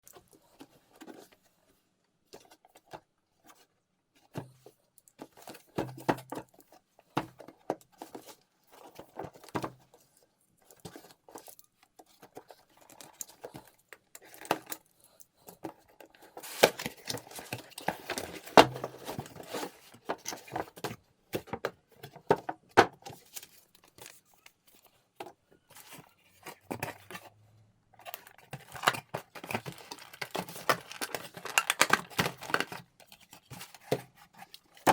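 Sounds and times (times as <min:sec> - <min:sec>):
plastic and cardboard crinkling: 0:00.0 - 0:01.6, 0:02.2 - 0:34.9.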